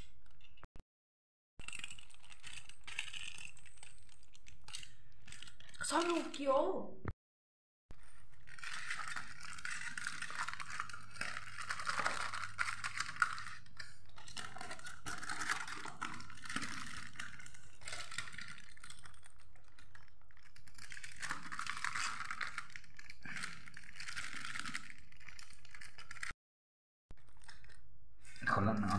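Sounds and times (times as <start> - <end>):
aluminium foil crinkling: 1.6 - 6.4, 8.0 - 26.3, 27.2 - 28.9.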